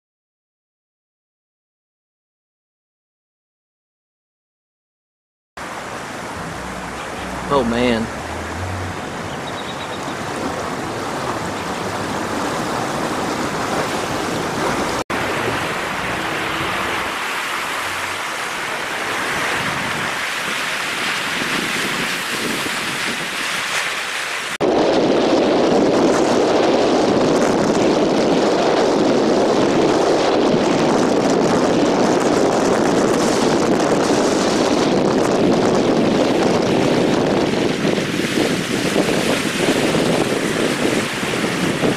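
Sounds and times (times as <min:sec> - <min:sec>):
wind on microphone: 0:05.6 - 0:41.9.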